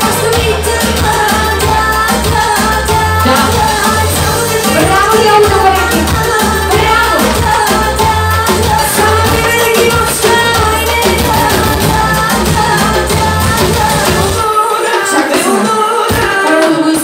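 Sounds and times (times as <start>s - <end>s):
backing track with bass: 0.0s - 17.0s
woman singing: 0.0s - 17.0s.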